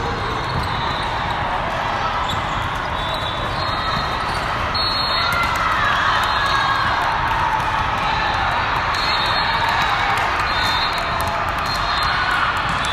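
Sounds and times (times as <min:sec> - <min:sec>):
crowded hall din: 0:00.0 - 0:12.9.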